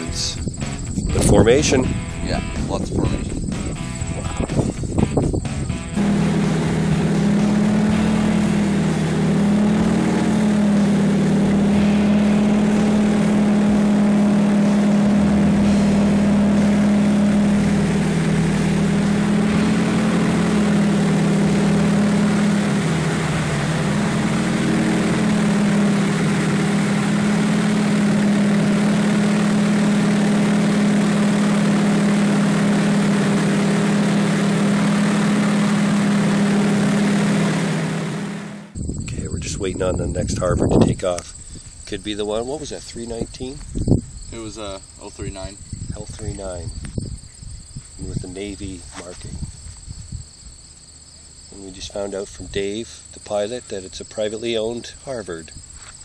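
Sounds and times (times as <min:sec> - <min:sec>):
propeller plane engine drone: 0:00.0 - 0:47.0.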